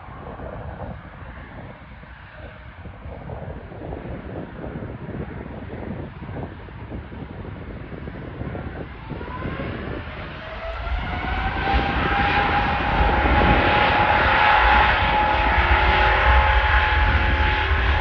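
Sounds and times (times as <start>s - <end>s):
jet engines whining: 0.0s - 18.0s
low rumble: 0.0s - 18.0s.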